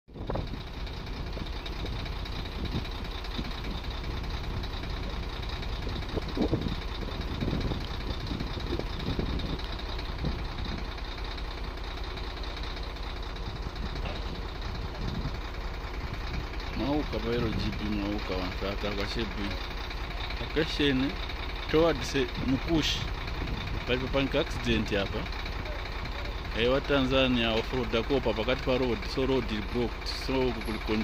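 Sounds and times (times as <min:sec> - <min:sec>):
vehicle engine idling: 0:00.1 - 0:31.0.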